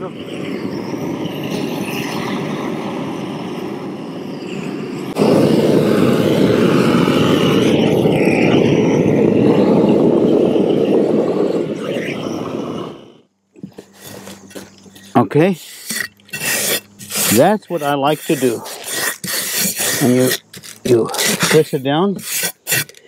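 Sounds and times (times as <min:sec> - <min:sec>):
propane torch flame roaring: 0:00.0 - 0:23.0.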